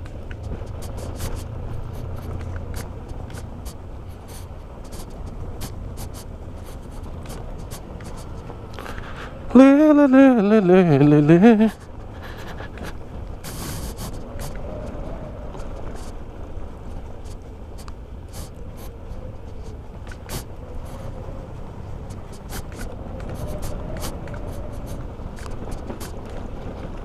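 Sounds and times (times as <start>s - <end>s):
wind and road rumble: 0.0s - 27.0s.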